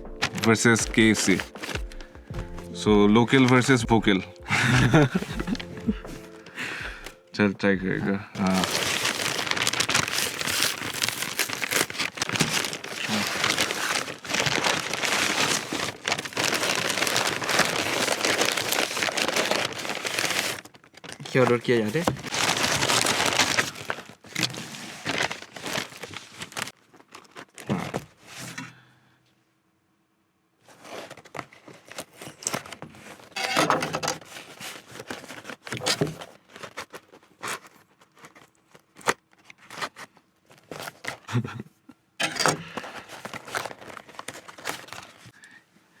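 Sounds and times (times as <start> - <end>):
paper and plastic packaging crinkling: 0.0 - 2.3, 3.2 - 3.8, 4.5 - 7.3, 8.1 - 28.5, 30.6 - 41.6, 42.2 - 45.4.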